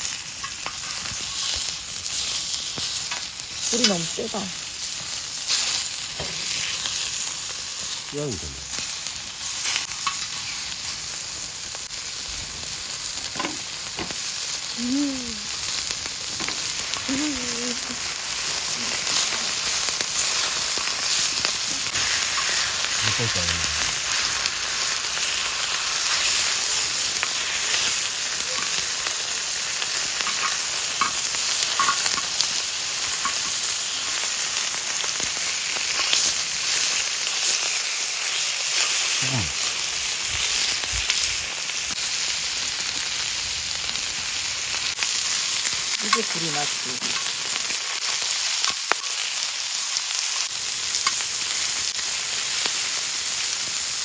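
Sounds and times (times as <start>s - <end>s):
meat sizzling on a griddle: 0.0s - 54.0s.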